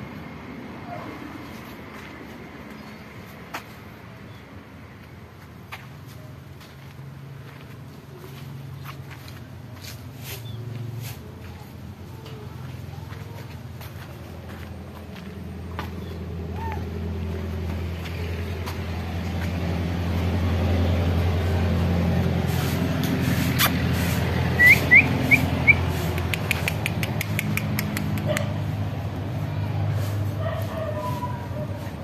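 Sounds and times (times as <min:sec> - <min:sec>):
vehicle engine running: 0:04.9 - 0:32.0.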